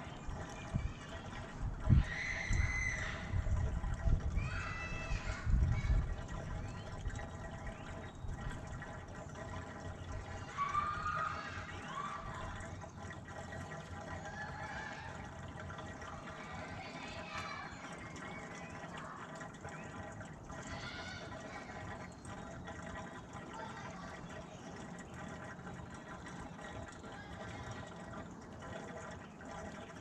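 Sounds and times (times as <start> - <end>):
fuel pouring from can: 0.0 - 30.0
short gurgles: 0.0 - 30.0.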